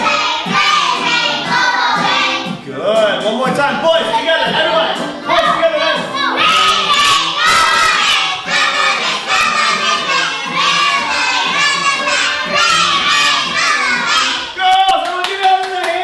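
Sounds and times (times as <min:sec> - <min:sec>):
children singing together: 0:00.0 - 0:02.6, 0:04.1 - 0:14.6.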